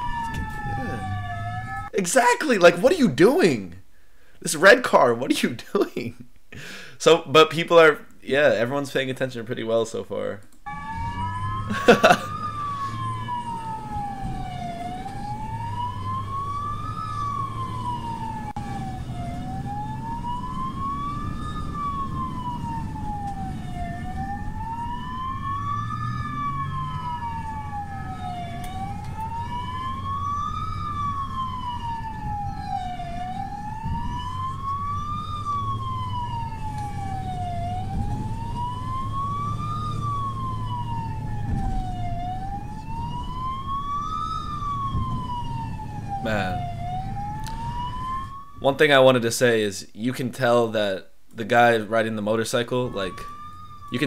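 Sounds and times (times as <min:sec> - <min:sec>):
siren wailing: 0:00.0 - 0:03.6, 0:10.6 - 0:48.8, 0:51.9 - 0:54.0
engine and road rumble: 0:00.0 - 0:54.0.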